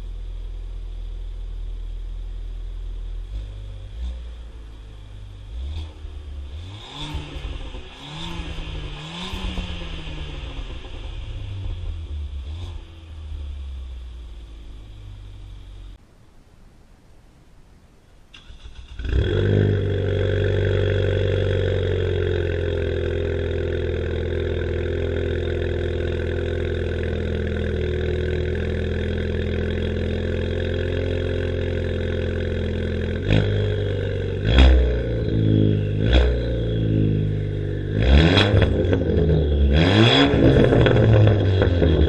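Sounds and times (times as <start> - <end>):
car engine cranking and idling: 0.0 - 16.0, 18.3 - 42.0
engine revving: 3.2 - 15.7, 18.4 - 42.0.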